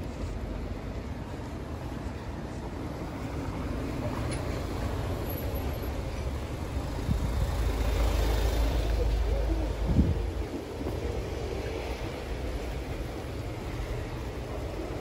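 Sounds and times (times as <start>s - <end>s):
car driving slowly past: 0.0s - 15.0s.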